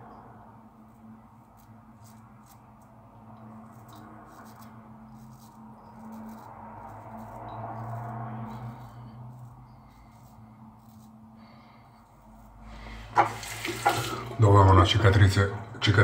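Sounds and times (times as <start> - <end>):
steady low hum: 0.0 - 16.0
razor scraping stubble: 0.7 - 14.3.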